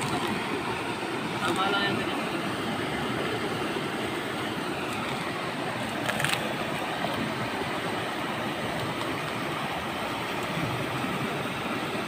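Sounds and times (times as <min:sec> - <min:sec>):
whitewater river rapids rushing: 0:00.0 - 0:12.0.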